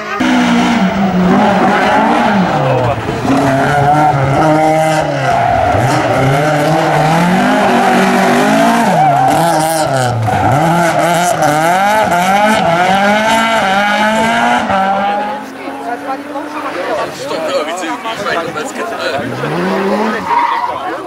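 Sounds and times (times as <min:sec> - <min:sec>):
rally car engine accelerating: 0:00.0 - 0:21.0.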